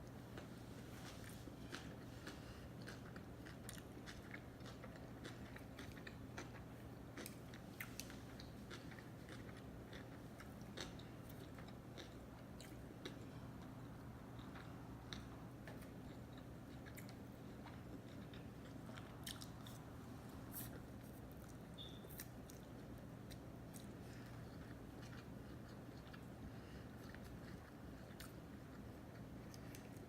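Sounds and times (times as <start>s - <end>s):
person chewing with mouth clicks: 0.4s - 30.0s.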